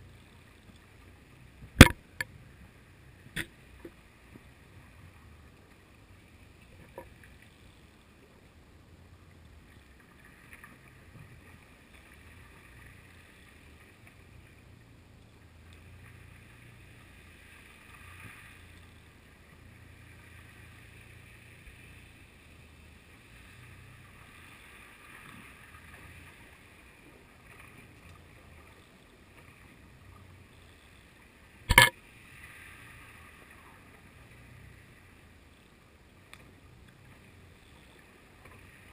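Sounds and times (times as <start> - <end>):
faint ticks: 0.0 - 8.6, 9.2 - 38.9
muffled underwater hum: 0.0 - 38.9.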